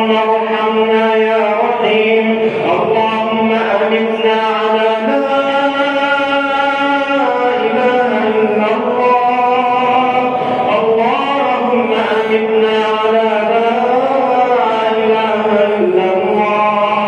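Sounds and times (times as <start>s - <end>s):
person chanting a supplication: 0.0s - 17.0s.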